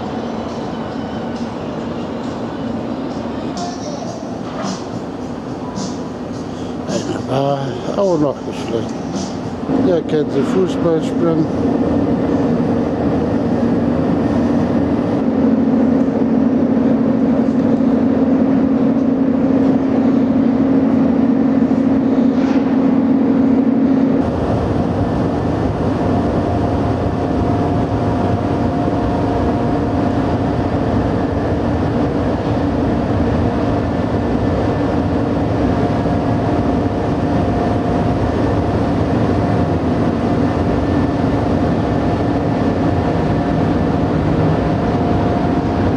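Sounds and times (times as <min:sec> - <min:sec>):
ship machinery droning: 0:00.0 - 0:45.9.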